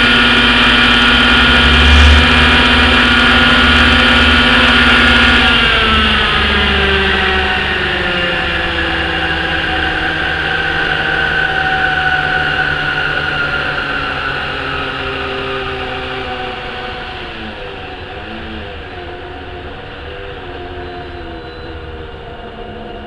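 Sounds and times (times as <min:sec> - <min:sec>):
model helicopter engine running: 0:00.0 - 0:23.0.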